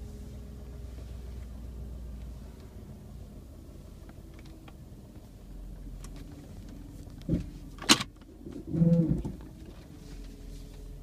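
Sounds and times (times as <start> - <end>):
car engine drone inside cabin: 0.0 - 11.0.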